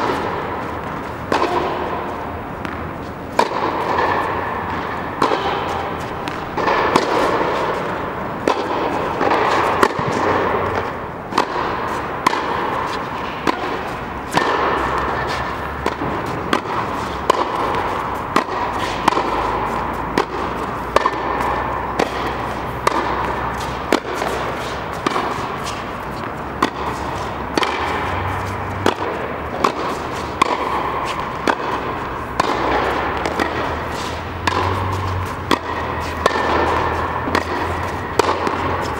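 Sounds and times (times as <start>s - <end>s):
steady background noise: 0.0s - 38.9s
tennis ball bouncing: 0.0s - 38.9s
tennis racket striking ball: 0.0s - 38.9s.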